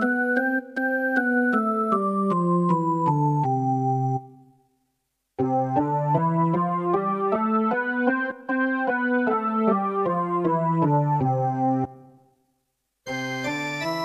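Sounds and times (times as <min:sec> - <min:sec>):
digital keyboard melody: 0:00.0 - 0:04.5, 0:05.4 - 0:12.2, 0:13.1 - 0:14.0.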